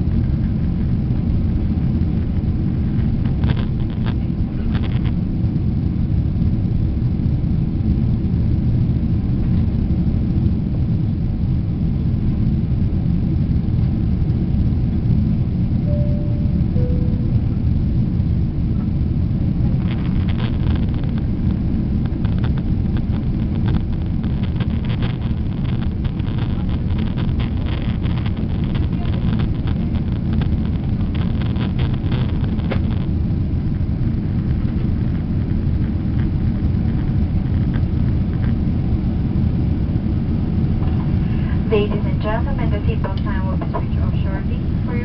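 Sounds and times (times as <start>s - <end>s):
airliner cabin roar: 0.0s - 45.0s.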